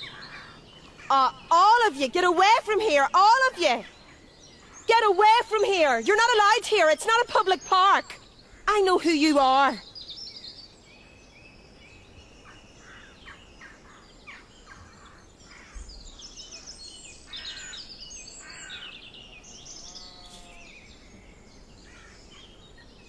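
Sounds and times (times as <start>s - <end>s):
lower pitched bird call: 0.0s - 6.2s, 9.6s - 23.0s
birds chirping and singing: 0.0s - 23.0s.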